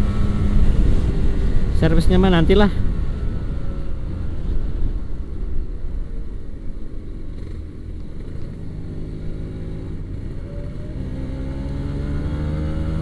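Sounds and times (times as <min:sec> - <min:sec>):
motorcycle engine revving: 0:00.0 - 0:06.5, 0:07.2 - 0:13.0
wind rumble: 0:00.0 - 0:13.0.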